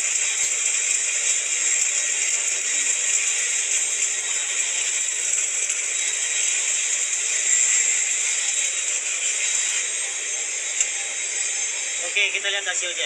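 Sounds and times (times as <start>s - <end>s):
arc welding crackling sizzle: 0.0s - 13.0s.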